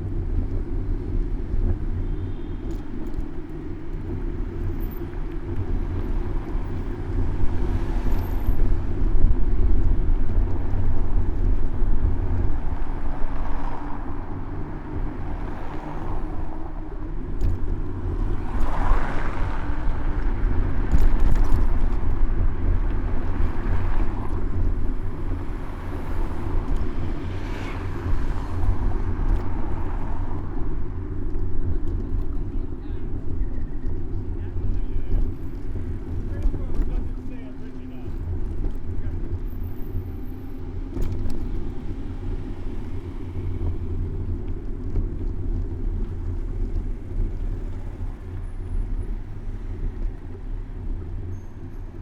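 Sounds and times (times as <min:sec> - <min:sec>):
low traffic rumble: 0:00.0 - 0:52.0
motor vehicles passing: 0:02.6 - 0:52.0.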